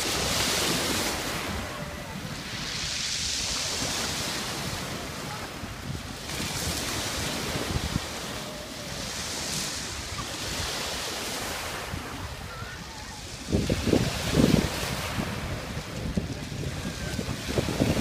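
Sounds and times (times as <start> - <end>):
waves washing over pebbles: 0.0 - 18.0
wind rumbling on microphone: 0.0 - 18.0.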